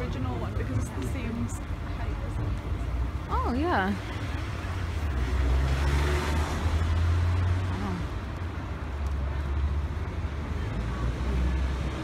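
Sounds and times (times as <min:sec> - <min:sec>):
car passing: 0:00.0 - 0:12.0
street traffic rumble: 0:00.0 - 0:12.0.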